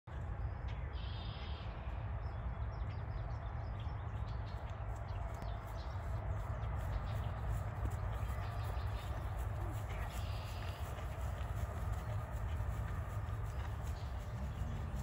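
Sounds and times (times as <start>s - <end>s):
steady low rumble: 0.1s - 15.0s
birds chirping: 0.5s - 15.0s.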